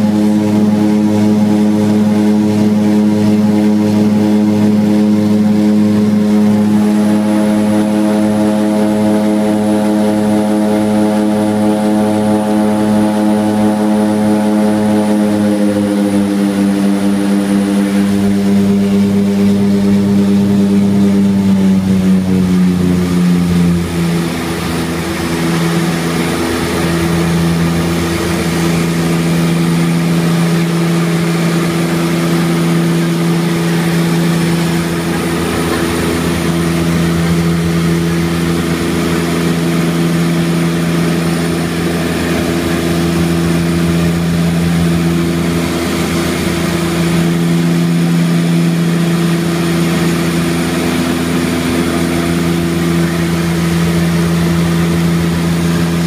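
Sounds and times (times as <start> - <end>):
propeller engines droning: 0.0 - 56.0.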